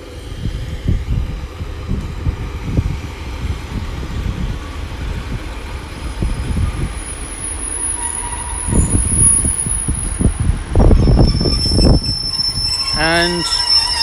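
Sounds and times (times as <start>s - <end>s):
train engines and wheels rumbling: 0.0s - 14.0s.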